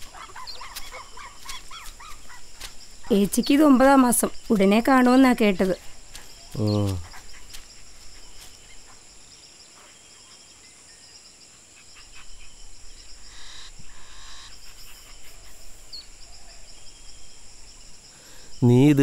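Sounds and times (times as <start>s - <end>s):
bird chirp: 0.0s - 18.8s
insects chirping: 0.0s - 19.0s.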